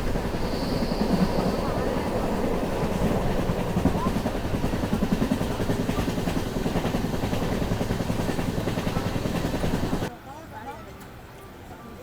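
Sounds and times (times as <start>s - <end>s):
train rumbling at speed: 0.0s - 10.1s.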